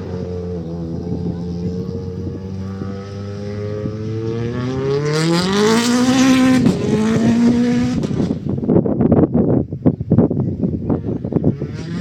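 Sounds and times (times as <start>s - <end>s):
rally car engine revving: 0.0s - 8.7s, 10.9s - 12.0s.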